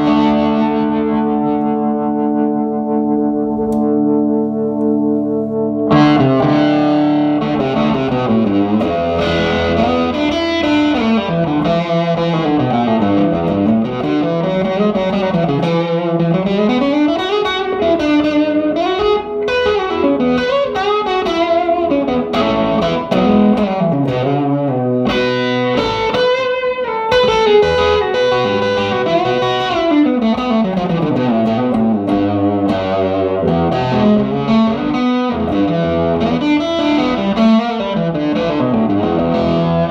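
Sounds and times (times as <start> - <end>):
electric guitar single-note lines: 0.0 - 39.9.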